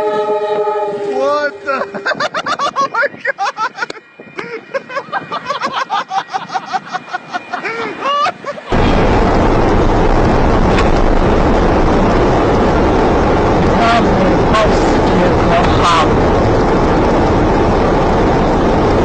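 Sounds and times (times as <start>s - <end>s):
loud rush of noise: 1.0s - 19.0s.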